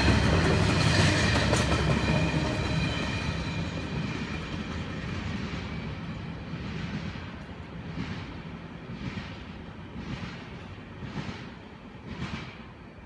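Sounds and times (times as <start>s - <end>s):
freight train rolling on rails: 0.0s - 13.0s.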